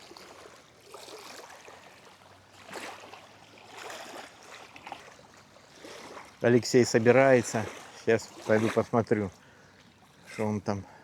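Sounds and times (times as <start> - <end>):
small waves sloshing: 0.0 - 11.0.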